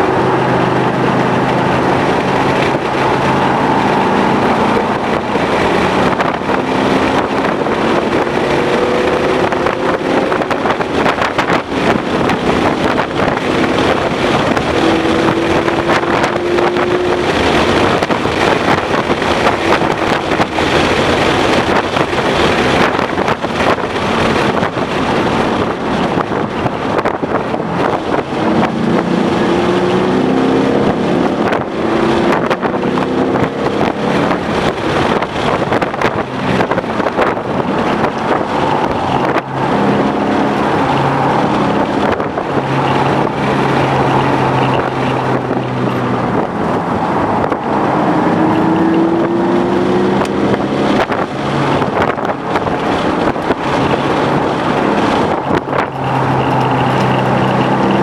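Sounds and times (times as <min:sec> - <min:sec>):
car engine revving hard: 0:00.0 - 0:58.0
wind and road noise: 0:00.0 - 0:58.0.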